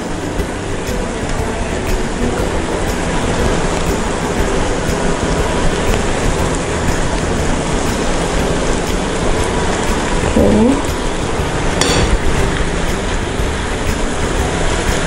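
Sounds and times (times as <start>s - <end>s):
fish sizzling in frying pan: 0.0s - 15.0s.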